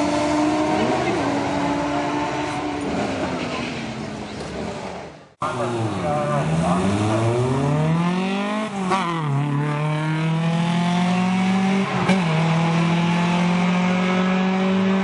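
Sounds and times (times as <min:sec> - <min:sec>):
race car engine accelerating: 0:00.0 - 0:04.1, 0:05.4 - 0:15.0.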